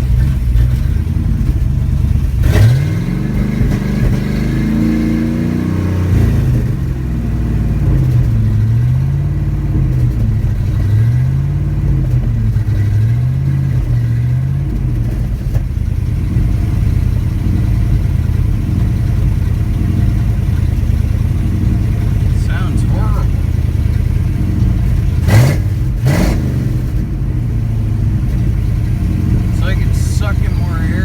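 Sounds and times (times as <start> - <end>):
engine idling roughly and surging: 0.0 - 31.0.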